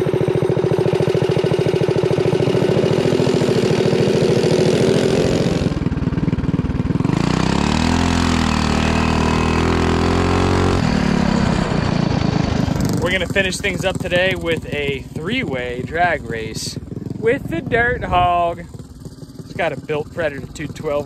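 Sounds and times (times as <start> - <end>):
mini bike engine revving: 0.0 - 21.0.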